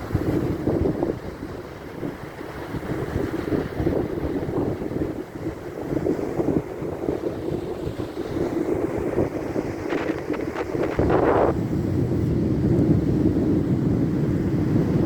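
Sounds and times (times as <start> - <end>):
rushing waves: 0.0 - 15.0
wind buffeting microphone: 0.0 - 15.0.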